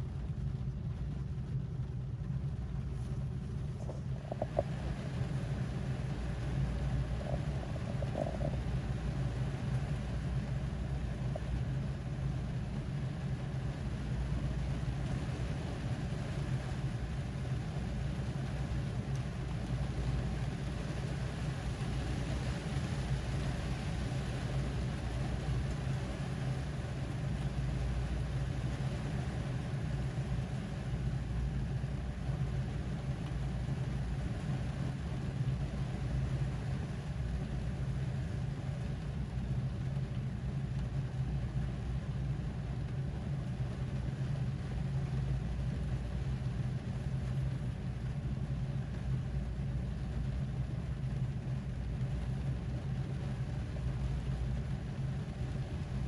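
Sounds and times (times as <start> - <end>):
steady low rumble: 0.0 - 56.0
rain hissing on a car: 1.9 - 56.0.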